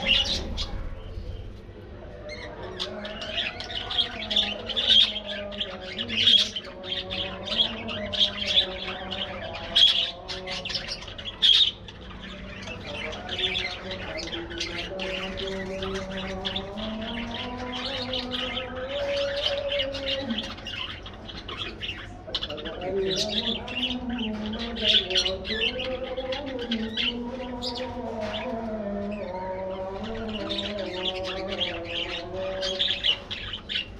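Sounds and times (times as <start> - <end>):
budgerigars chattering and squawking: 0.0 - 1.6, 2.2 - 33.9.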